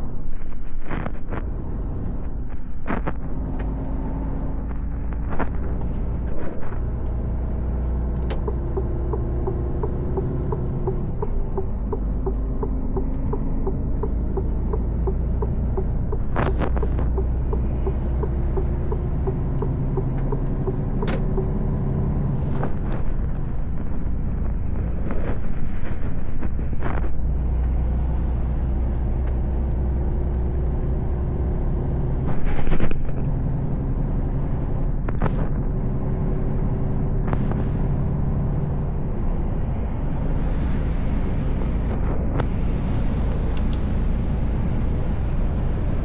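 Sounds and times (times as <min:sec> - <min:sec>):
diesel engine drone: 0:00.0 - 0:46.0
road rumble: 0:00.0 - 0:46.0.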